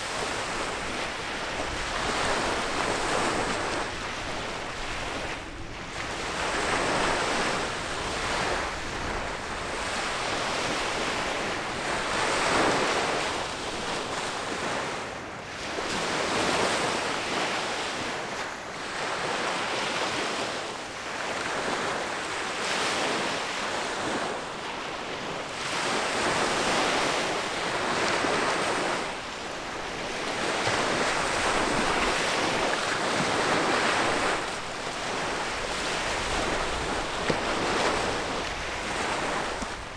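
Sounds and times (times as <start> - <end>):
small waves washing against shore: 0.0 - 39.9
wind: 0.0 - 39.9.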